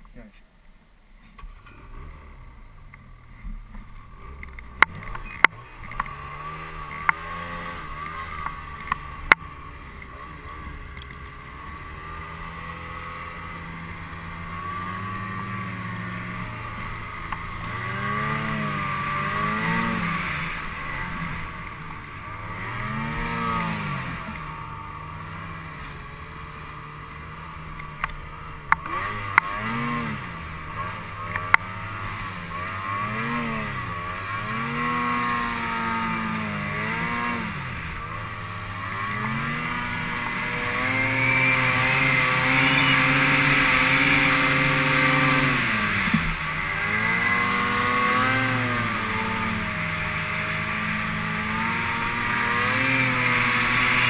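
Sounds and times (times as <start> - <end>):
snowmobile engine revving: 3.8 - 54.0.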